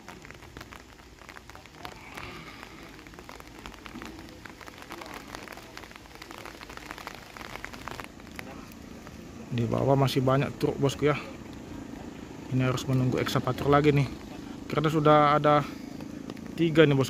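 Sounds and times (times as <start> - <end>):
faint voices: 0.0 - 17.0
light rain pattering: 0.0 - 17.0.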